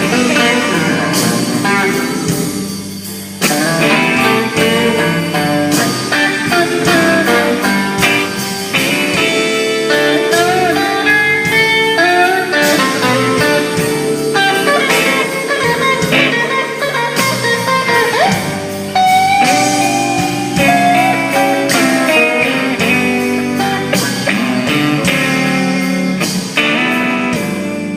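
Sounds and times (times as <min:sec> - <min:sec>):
blues guitar with bent notes: 0:00.0 - 0:27.9.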